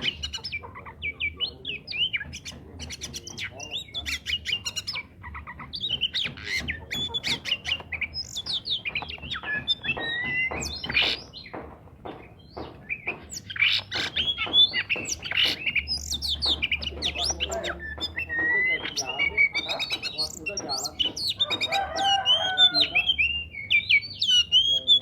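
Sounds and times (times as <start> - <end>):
bird singing: 0.0 - 25.0.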